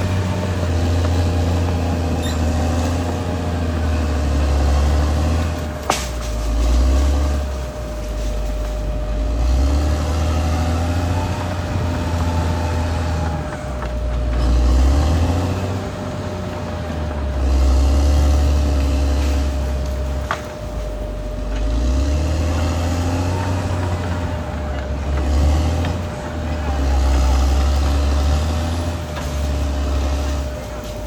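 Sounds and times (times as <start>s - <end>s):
bulldozer diesel engine under load: 0.0s - 31.0s
thin whine: 0.0s - 31.0s.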